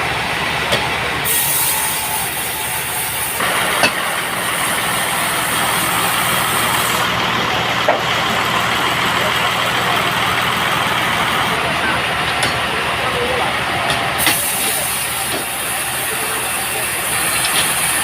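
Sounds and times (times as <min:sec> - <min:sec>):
sawmill machinery hum: 0:00.0 - 0:18.0.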